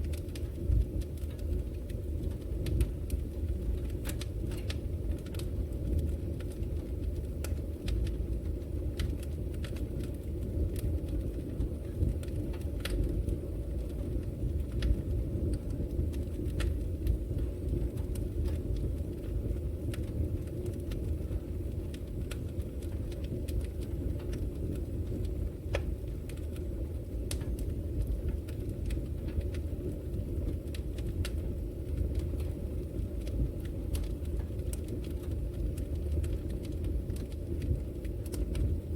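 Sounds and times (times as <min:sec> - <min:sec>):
fire crackling and popping: 0:00.0 - 0:38.9
fire flames rumbling: 0:00.0 - 0:38.9.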